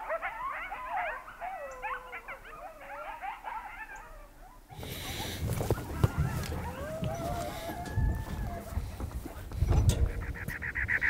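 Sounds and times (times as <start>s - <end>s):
canines yipping and howling: 0.0s - 11.0s.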